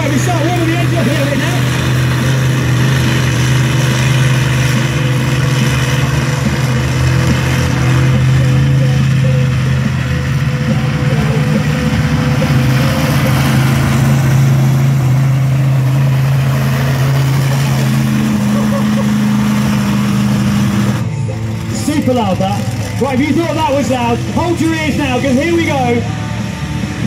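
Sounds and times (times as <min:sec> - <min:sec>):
truck engine running at low revs: 0:00.0 - 0:27.0.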